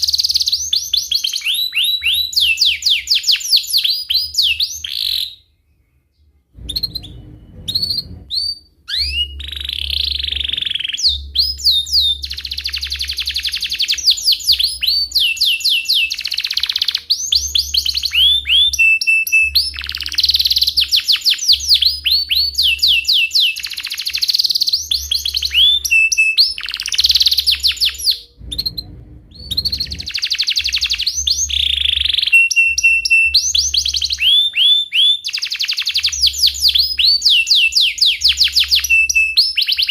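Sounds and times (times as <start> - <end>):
canary singing trills and chirps: 0.0 - 39.9.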